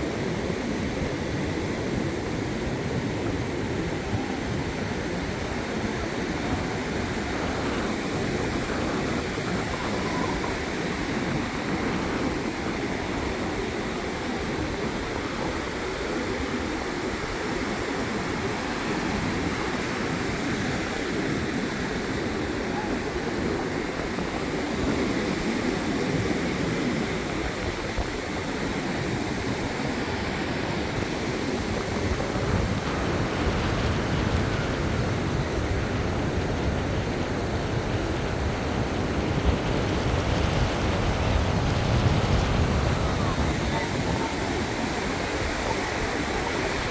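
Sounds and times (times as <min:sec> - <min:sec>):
small waves breaking on beach: 0:00.0 - 0:46.9
wind rumble on microphone: 0:00.0 - 0:46.9.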